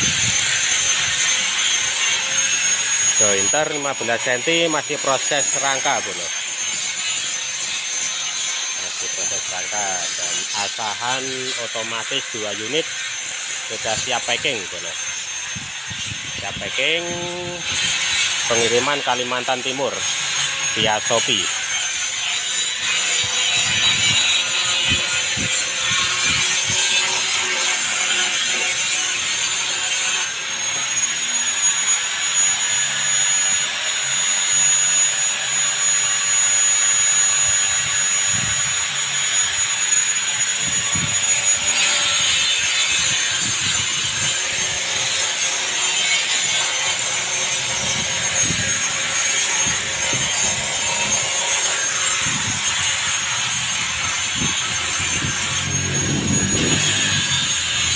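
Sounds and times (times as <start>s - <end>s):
high steady whine: 0.0s - 57.9s
power machine grinding: 0.0s - 57.9s.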